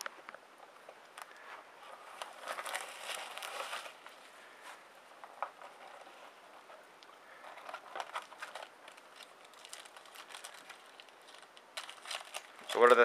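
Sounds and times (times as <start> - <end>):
rustling of card packs: 0.8 - 13.0.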